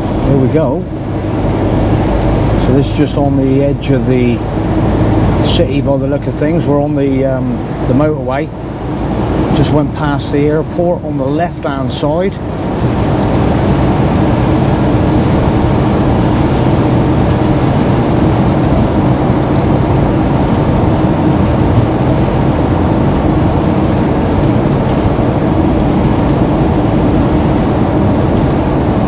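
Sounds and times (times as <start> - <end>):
diesel engine drone: 0.0 - 29.0
tyre and road roar: 0.0 - 29.0.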